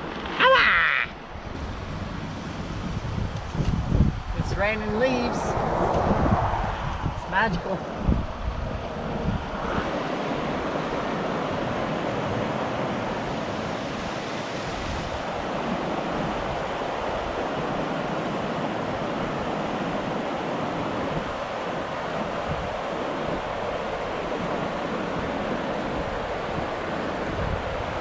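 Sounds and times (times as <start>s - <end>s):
river rushing over rocks: 0.0s - 6.0s, 7.0s - 28.0s.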